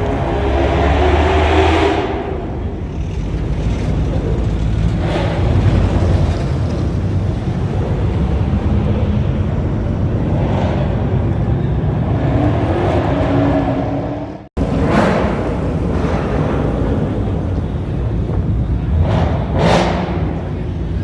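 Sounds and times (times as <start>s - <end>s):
car engine revving: 0.0s - 11.2s, 12.0s - 20.8s.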